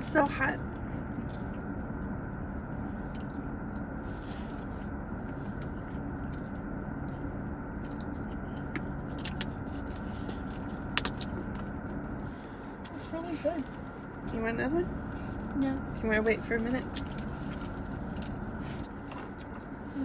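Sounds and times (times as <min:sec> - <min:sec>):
car cabin hum: 0:00.0 - 0:20.0
faint chewing: 0:00.7 - 0:14.3, 0:16.8 - 0:20.0.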